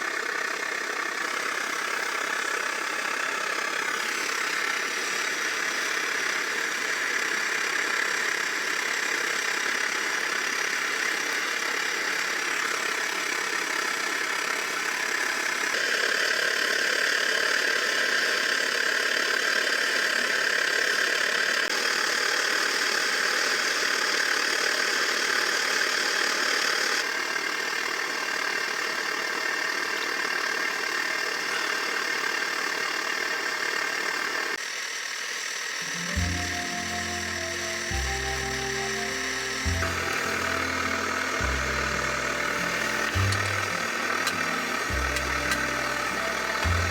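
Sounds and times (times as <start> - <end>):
camp stove burner roaring: 0.0 - 46.9.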